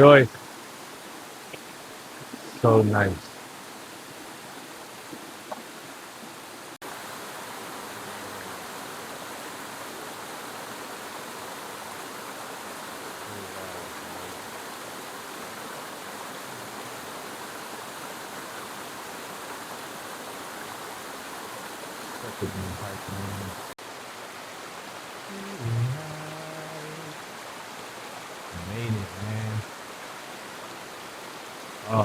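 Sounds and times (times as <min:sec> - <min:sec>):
waterfall splashing: 0:00.0 - 0:32.0.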